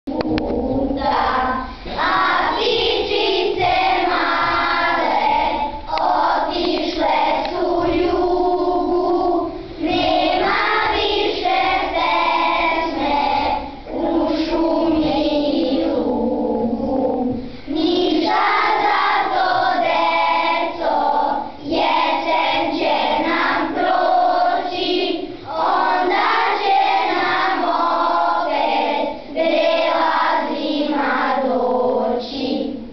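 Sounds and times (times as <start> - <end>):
children's choir singing: 0.1 - 32.9.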